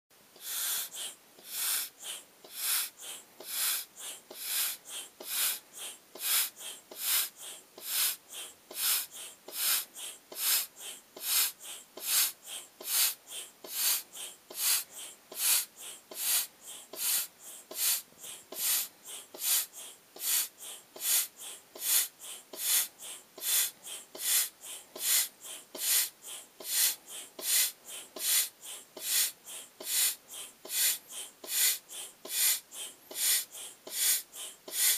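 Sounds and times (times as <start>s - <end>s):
foot pump hissing puffs: 0.4s - 34.9s.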